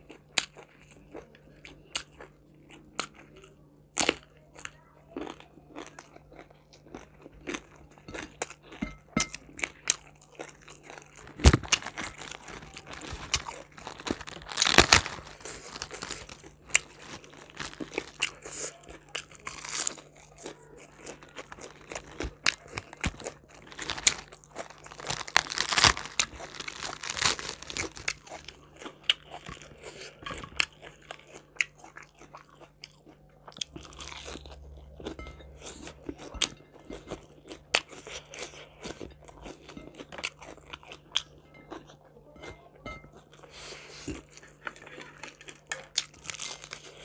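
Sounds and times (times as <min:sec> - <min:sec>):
person chewing crunchy cabbage: 0:00.0 - 0:47.0.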